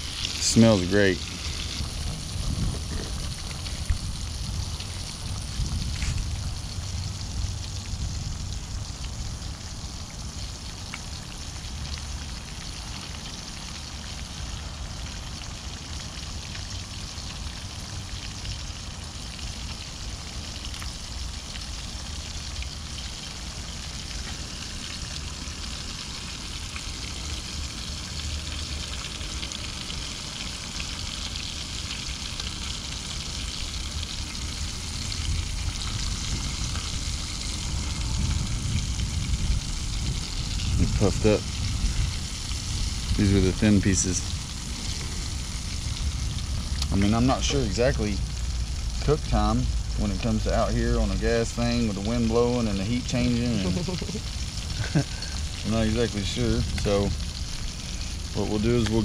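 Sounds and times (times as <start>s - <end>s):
low stove rumble: 0.0s - 59.0s
oil sizzling and crackling: 0.0s - 59.0s.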